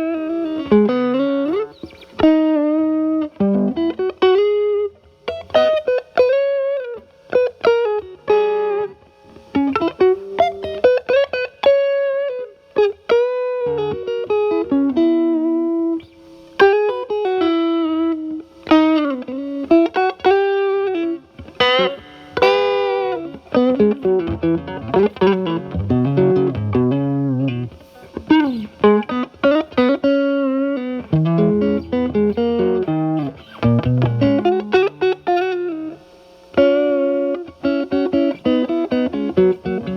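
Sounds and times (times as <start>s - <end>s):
overdriven electric guitar blues lines: 0.0s - 39.9s.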